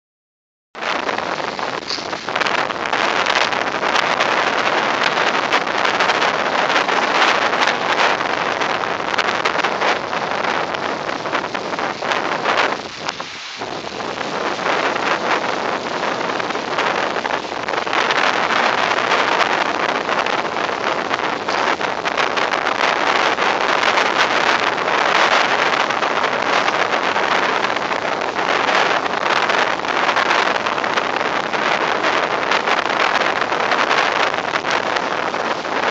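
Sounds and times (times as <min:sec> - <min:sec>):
storm wind rushing: 0:00.8 - 0:35.9
wind gusts crackling on microphone: 0:00.8 - 0:35.9.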